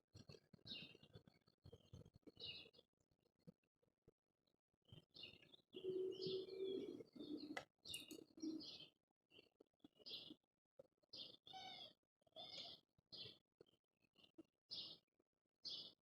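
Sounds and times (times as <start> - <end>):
small birds chirping: 0.1 - 3.5, 4.8 - 16.0.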